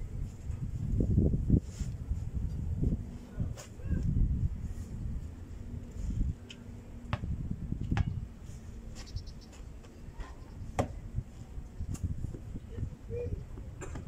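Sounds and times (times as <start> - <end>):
steady low rumble: 0.0 - 13.9.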